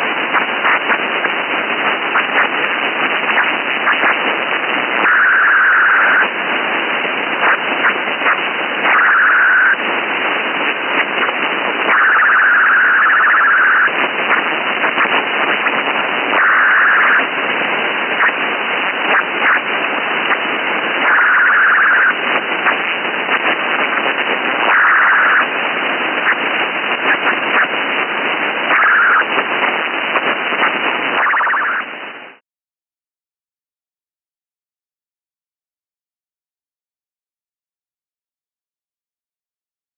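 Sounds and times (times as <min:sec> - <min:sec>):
radio static hiss with crackles: 0:00.0 - 0:32.4.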